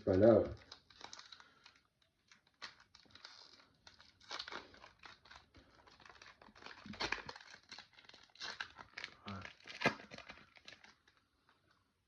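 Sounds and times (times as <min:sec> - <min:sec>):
crinkling of foil packaging: 0:00.0 - 0:11.8.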